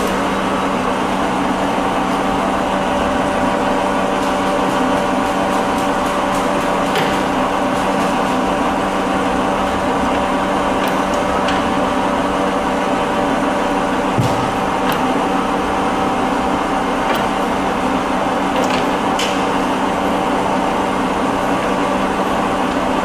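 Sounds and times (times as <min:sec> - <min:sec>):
lathe machine hum: 0:00.0 - 0:23.0.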